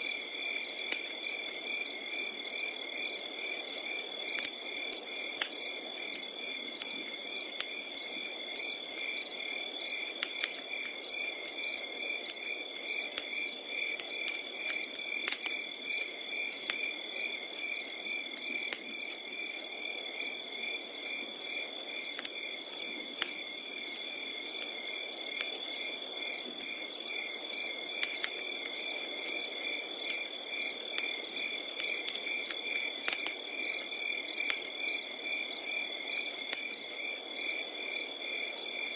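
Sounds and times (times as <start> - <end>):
crickets chirping: 0.0 - 38.9
wood fire crackling and popping: 0.0 - 38.9.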